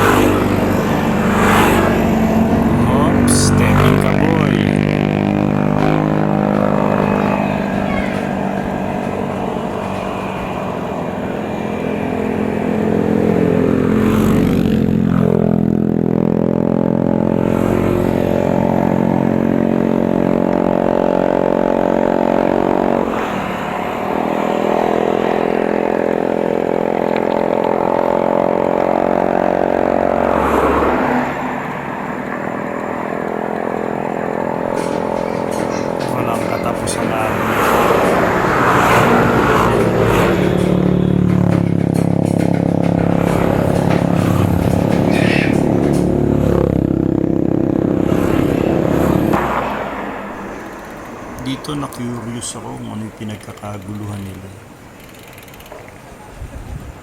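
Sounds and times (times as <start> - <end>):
vehicle engine shifting gears: 0.0 - 57.0.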